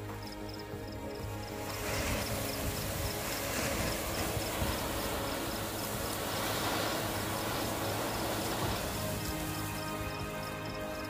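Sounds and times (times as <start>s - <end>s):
firework fountain hissing: 1.2s - 11.0s.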